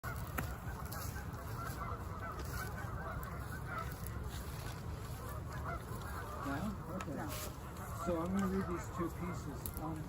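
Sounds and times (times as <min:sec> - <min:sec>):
geese honking: 0:00.0 - 0:10.0.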